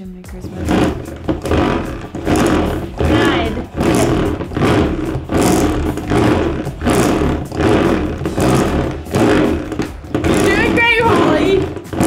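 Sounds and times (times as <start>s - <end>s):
pull-cord egg scrambler whirring: 0.4s - 12.0s.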